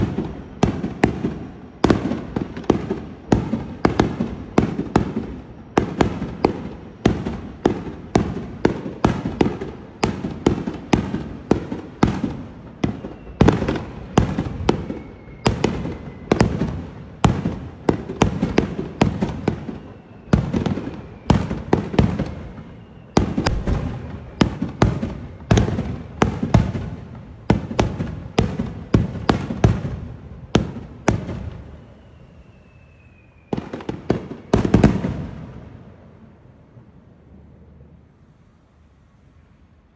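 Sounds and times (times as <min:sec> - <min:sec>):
fireworks bursting: 0:00.0 - 0:35.7.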